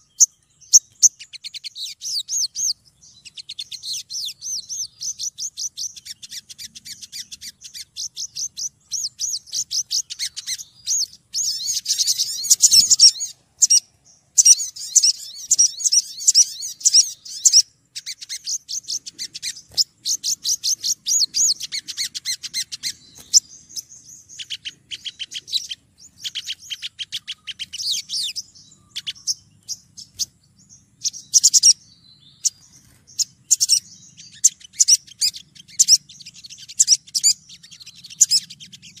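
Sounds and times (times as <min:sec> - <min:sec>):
bird calling in high chirps: 0:00.0 - 0:39.0.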